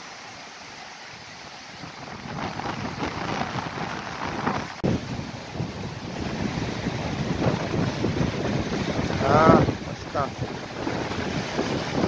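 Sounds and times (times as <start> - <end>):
waves washing onto rocky shore: 0.0 - 12.0
wind on microphone: 1.7 - 12.0.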